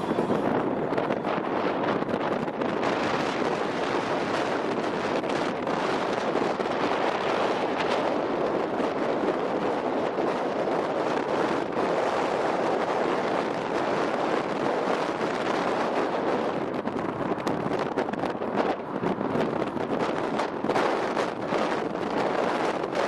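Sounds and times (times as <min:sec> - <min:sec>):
city traffic roar: 0:00.0 - 0:23.0
wind on microphone: 0:00.0 - 0:23.0.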